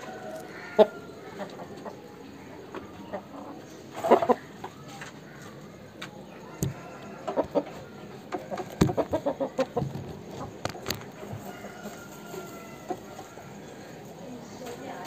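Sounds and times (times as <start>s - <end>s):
rooster clucking: 0.0s - 14.0s.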